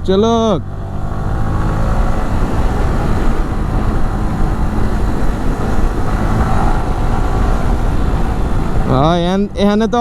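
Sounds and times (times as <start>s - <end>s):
motorcycle engine running: 0.0s - 10.0s
wind rushing on microphone: 0.0s - 10.0s.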